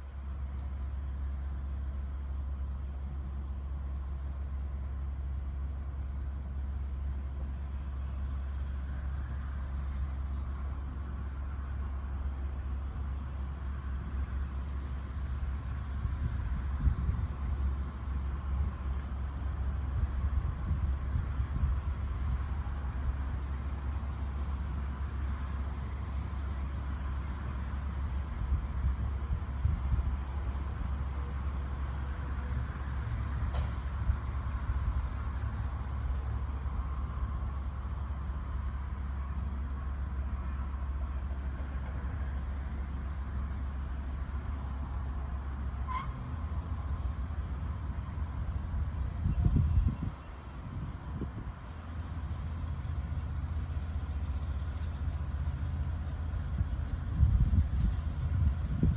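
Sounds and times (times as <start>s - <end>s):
constant low rumble: 0.0s - 58.9s
insects chirping: 0.0s - 58.9s.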